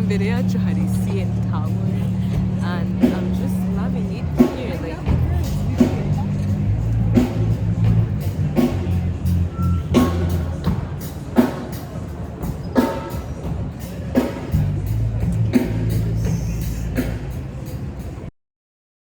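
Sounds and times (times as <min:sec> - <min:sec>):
background music with steady beat: 0:00.0 - 0:18.3.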